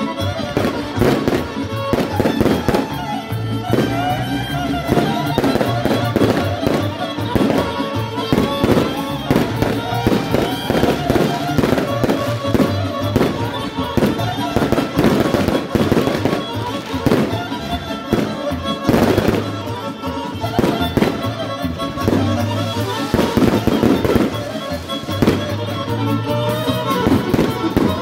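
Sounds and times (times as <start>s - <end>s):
folk band playing dance music: 0.0s - 28.0s.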